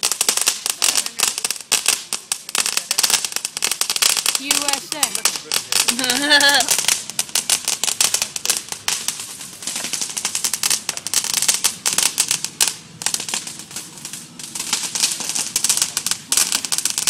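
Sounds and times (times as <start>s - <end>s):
ground firework crackling: 0.0s - 17.0s.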